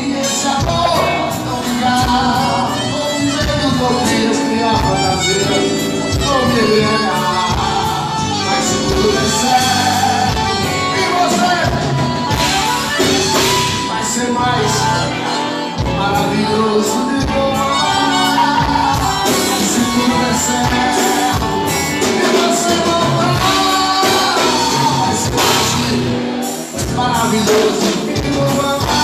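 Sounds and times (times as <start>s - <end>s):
accordion: 0.0s - 29.0s
acoustic guitar: 0.0s - 29.0s
electric guitar: 0.0s - 29.0s
person singing: 0.0s - 29.0s.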